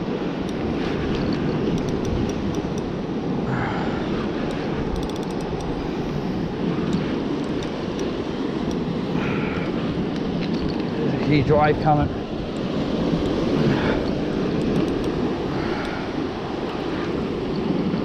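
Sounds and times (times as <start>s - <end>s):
ocean surf on rocks: 0.0s - 18.0s
wind rumble on microphone: 0.0s - 18.0s.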